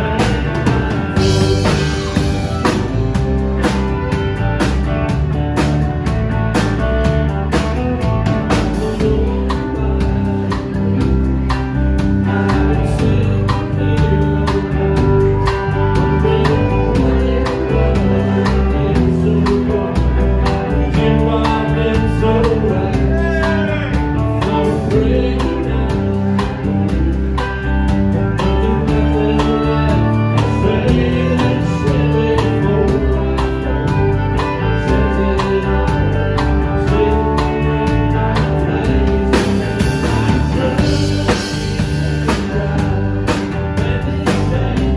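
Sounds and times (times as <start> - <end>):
live country band playing: 0.0 - 44.9.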